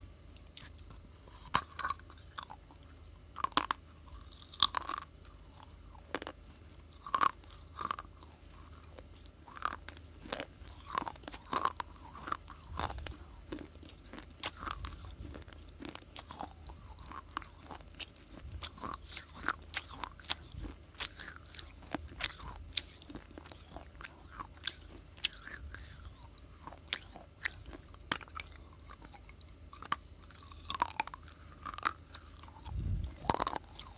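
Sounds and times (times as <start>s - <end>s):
person chewing crunchy clay: 0.4s - 33.9s.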